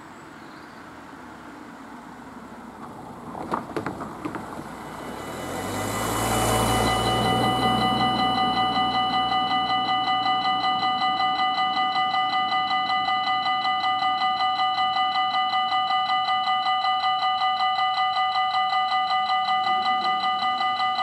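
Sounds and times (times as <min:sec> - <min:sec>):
level crossing warning bell: 0:03.9 - 0:21.0.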